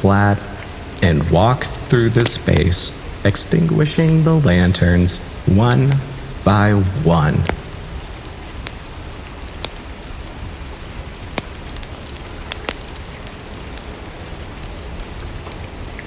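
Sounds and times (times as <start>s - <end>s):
gentle rain: 0.0s - 16.0s.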